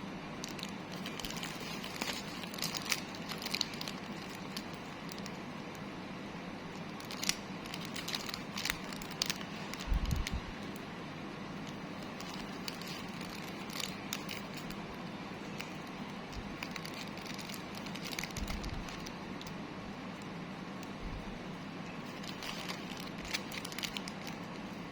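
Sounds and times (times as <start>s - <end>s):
steady background hiss: 0.0s - 24.9s
packaging crinkles and clicks: 0.4s - 5.9s, 6.7s - 10.9s, 11.6s - 21.0s, 21.9s - 24.9s.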